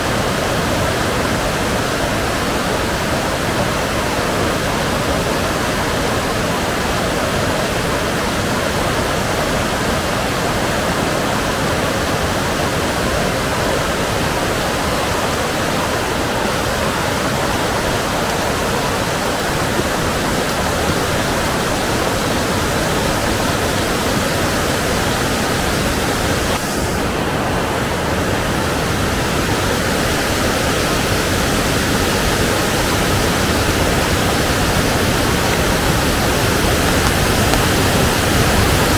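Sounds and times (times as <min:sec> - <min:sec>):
river rushing: 0:00.0 - 0:38.9.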